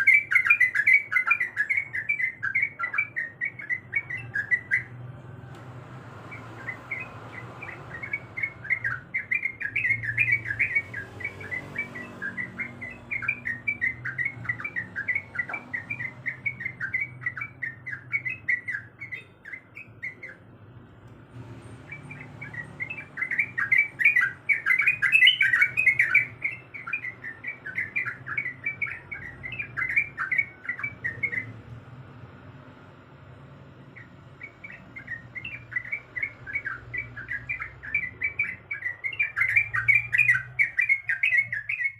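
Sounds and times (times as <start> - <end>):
bird singing bubbling chatter: 0.0 - 5.2, 6.3 - 20.6, 21.8 - 31.8, 33.9 - 41.9.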